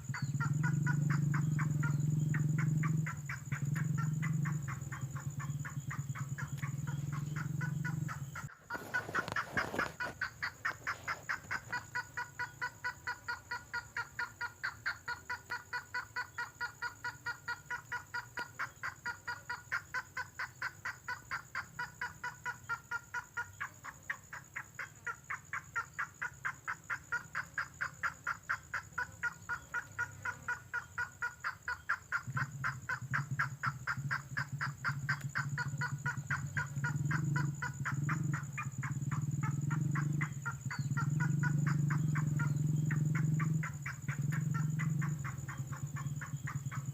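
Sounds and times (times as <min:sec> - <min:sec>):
repeated bird calls: 0:00.0 - 0:46.9.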